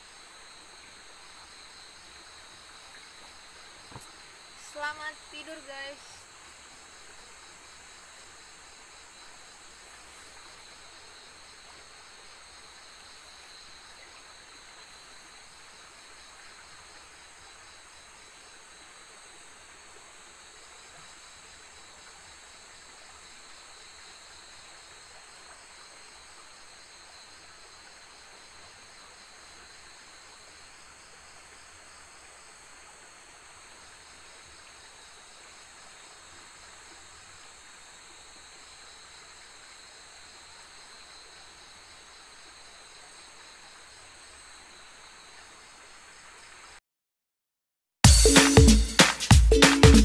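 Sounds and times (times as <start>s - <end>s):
crickets and insects trilling: 0.0s - 46.8s
faint even hiss: 0.0s - 46.8s.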